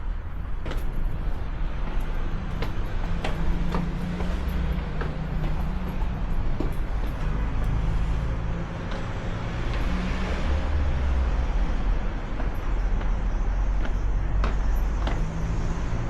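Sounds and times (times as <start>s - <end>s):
faint street noise: 0.0s - 16.0s
vehicle engine rumbling: 0.0s - 16.0s.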